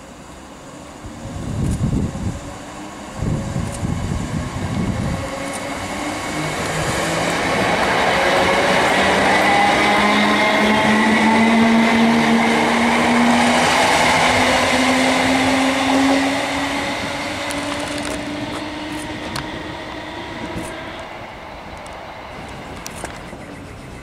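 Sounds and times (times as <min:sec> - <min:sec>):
train motors whining: 0:00.6 - 0:23.8
train wheels rumbling: 0:00.6 - 0:24.0.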